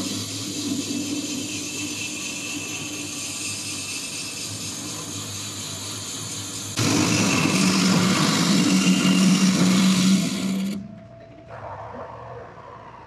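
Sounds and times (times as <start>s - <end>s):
milling cutter cutting metal: 0.0s - 10.8s.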